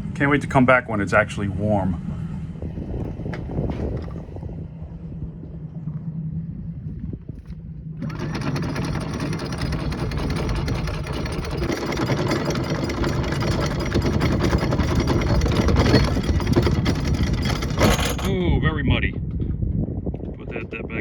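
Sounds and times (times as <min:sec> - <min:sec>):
outboard engines running: 0:00.0 - 0:18.7.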